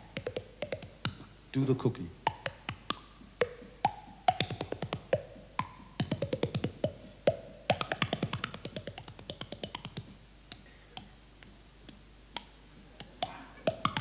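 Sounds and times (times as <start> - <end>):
hands popping on cheeks and mouth: 2.2 - 14.0.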